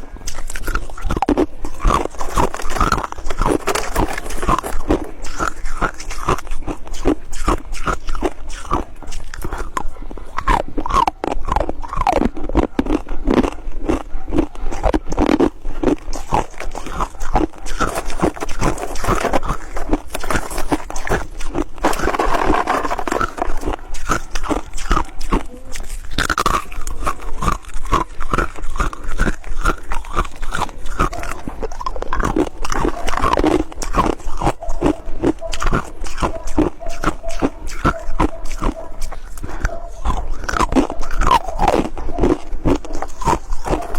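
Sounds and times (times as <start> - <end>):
chewing crunchy ice: 0.0 - 43.9.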